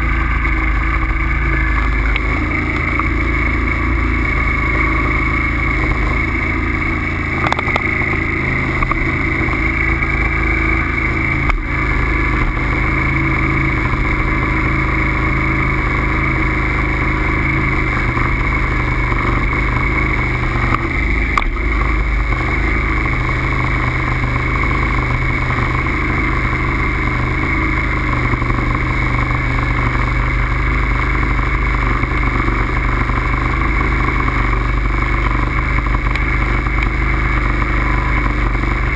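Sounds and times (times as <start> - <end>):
bike road noise: 0.0 - 38.9.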